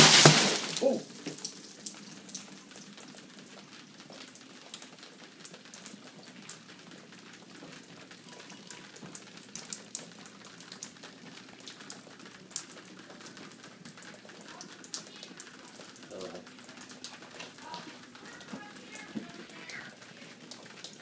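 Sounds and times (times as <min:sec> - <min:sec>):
water dripping onto wet carpet: 0:00.0 - 0:21.0.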